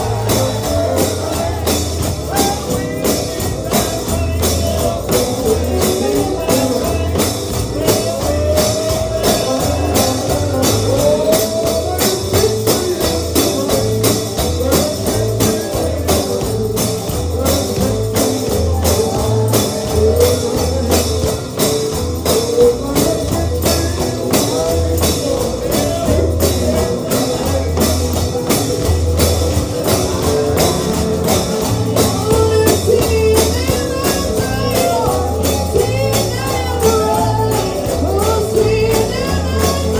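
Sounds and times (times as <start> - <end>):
gospel band music: 0.0 - 39.9
tambourine beat: 0.0 - 39.9.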